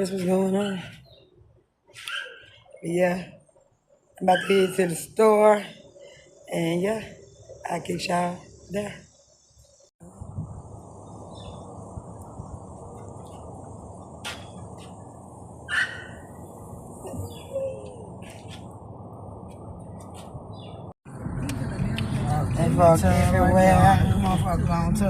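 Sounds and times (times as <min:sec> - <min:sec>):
birds chirping: 0:00.0 - 0:10.0, 0:10.6 - 0:21.0.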